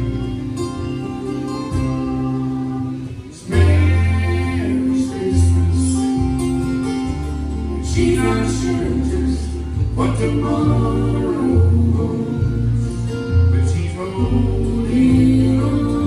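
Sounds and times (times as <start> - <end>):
acoustic guitars strumming: 0.0 - 16.0
upright bass notes: 0.0 - 16.0
person singing: 1.4 - 6.2, 7.8 - 16.0.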